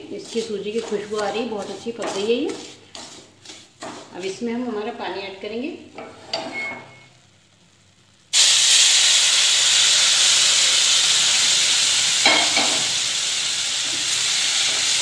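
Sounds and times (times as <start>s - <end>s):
sizzling hiss in a pan: 0.0s - 15.0s.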